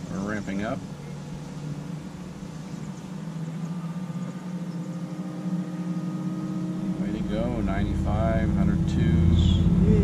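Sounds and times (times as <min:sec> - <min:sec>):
electric charger humming: 0:00.0 - 0:10.0
high-pitched whine: 0:00.0 - 0:10.0.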